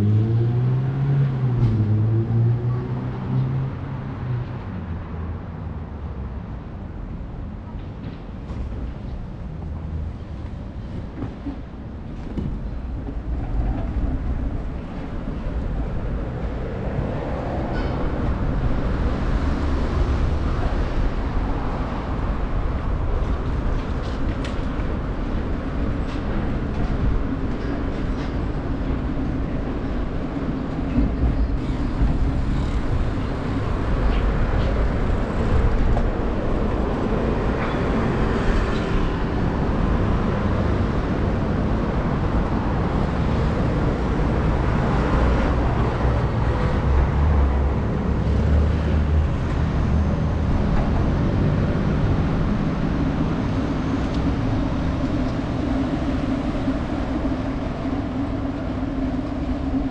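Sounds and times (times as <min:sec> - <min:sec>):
train rumbling on tracks: 0:00.0 - 0:59.9.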